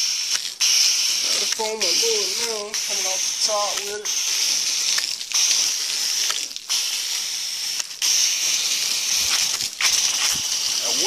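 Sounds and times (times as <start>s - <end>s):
foam gun hissing spray: 0.0s - 11.0s.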